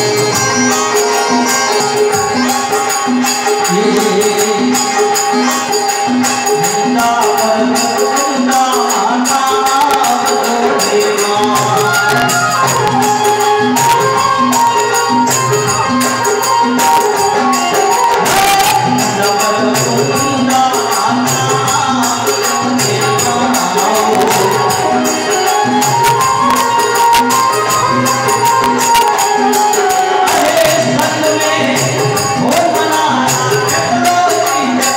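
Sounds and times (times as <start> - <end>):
harmonium and keyboard: 0.0 - 34.9
jingling hand percussion: 0.0 - 34.9
steady drum beat: 0.0 - 34.9.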